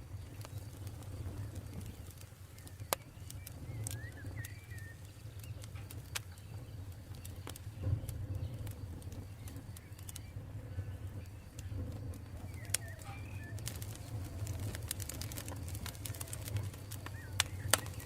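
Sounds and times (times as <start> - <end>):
campfire crackling and popping: 0.0 - 18.0
bird chirping: 0.2 - 18.0.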